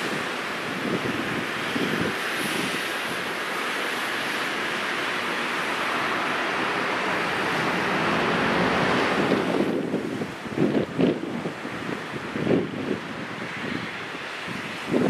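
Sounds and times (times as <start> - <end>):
jet engines rushing at taxi power: 0.0 - 15.0.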